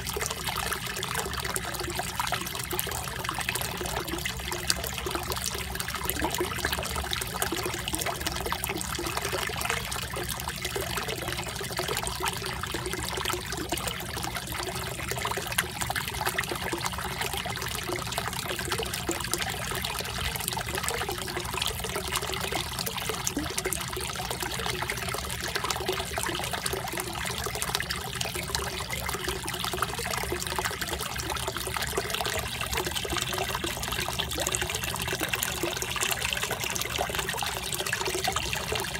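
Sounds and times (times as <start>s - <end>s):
water bubbling and trickling: 0.0s - 38.9s.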